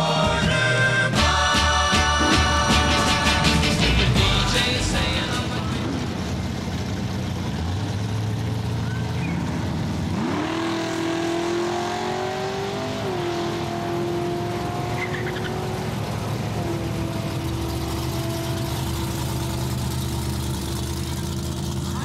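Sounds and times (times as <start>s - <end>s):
engine idling drone: 0.0s - 22.0s
engine revving: 0.0s - 22.0s.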